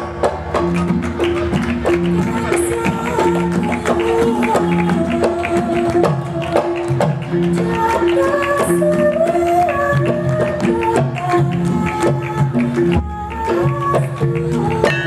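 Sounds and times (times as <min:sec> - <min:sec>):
woman singing: 0:02.0 - 0:15.0.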